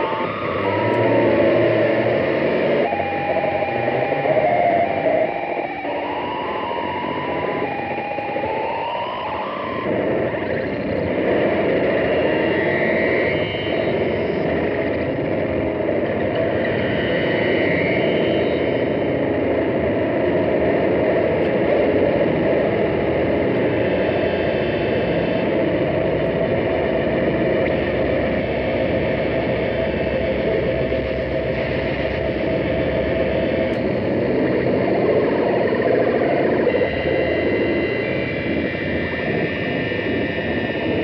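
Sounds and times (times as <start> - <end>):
dark ambient synthesizer texture: 0.0 - 41.0.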